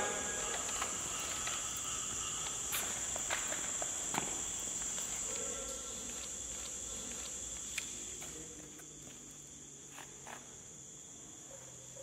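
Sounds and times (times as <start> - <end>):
footsteps on concrete floor: 0.0 - 10.8
crickets chirring: 0.0 - 12.0.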